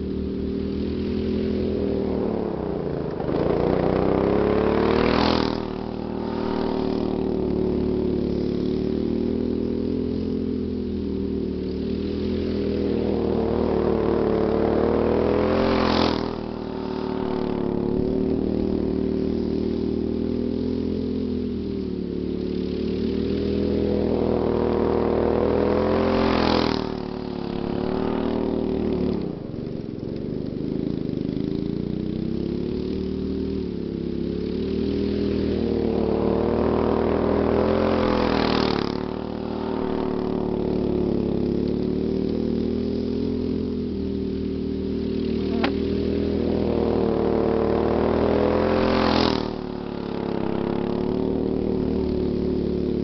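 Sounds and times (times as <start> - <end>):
go-kart engine passing: 0.0 - 53.0.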